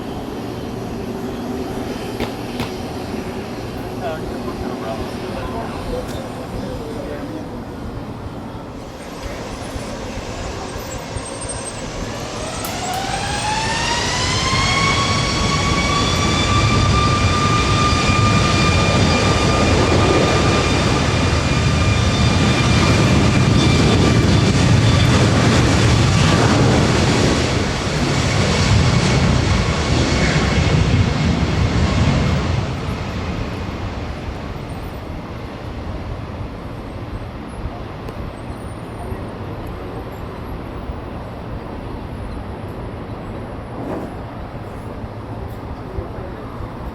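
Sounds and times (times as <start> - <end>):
loud engine rumble: 0.0 - 37.7
jet engines whining: 0.0 - 42.2.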